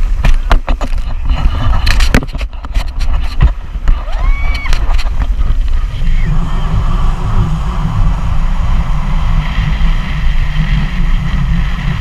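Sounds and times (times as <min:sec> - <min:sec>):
low rumble: 0:00.0 - 0:12.0
water rushing: 0:00.0 - 0:12.0
wind buffeting microphone: 0:00.0 - 0:12.0.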